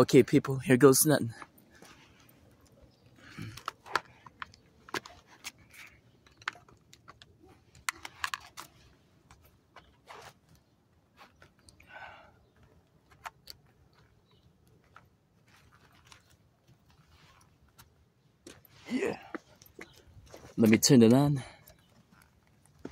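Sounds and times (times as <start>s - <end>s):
handling clicks and rustles: 0.2s - 22.9s.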